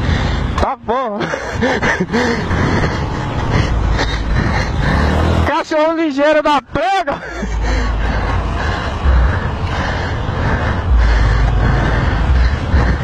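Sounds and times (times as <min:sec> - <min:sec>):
motorcycle engines running: 0:00.0 - 0:13.0
road traffic rumble: 0:00.0 - 0:13.0.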